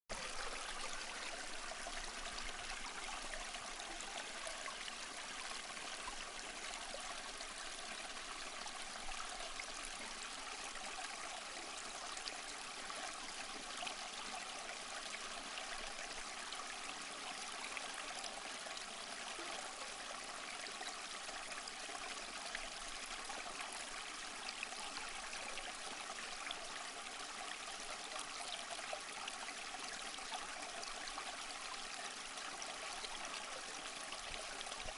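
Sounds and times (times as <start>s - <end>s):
stream flowing: 0.1s - 34.9s.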